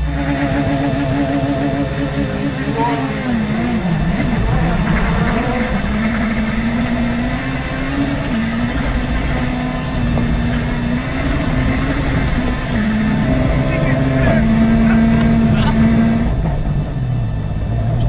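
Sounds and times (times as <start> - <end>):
rally car engine running hard: 0.0 - 18.0.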